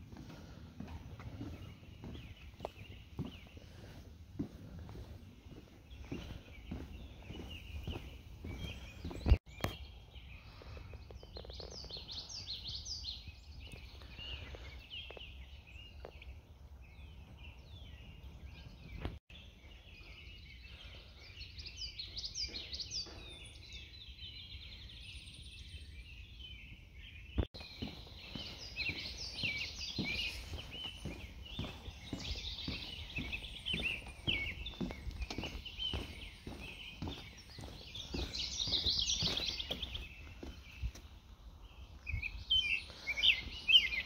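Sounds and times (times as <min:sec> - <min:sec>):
songbirds singing and chirping: 0:00.0 - 0:44.0.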